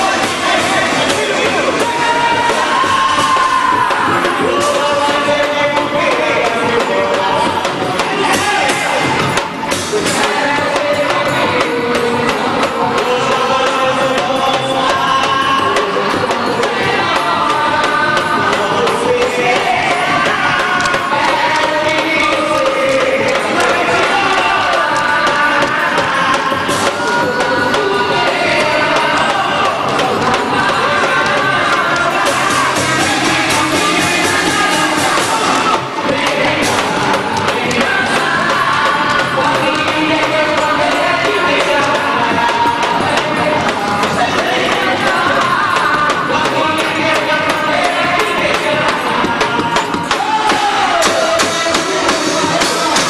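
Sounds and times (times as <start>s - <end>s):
crowd voices: 0.0s - 53.0s
person singing: 0.0s - 53.0s
steady percussion: 0.0s - 53.0s.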